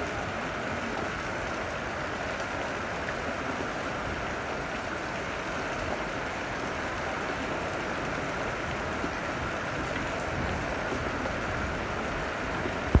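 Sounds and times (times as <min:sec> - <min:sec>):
heavy rain on road: 0:00.0 - 0:13.0.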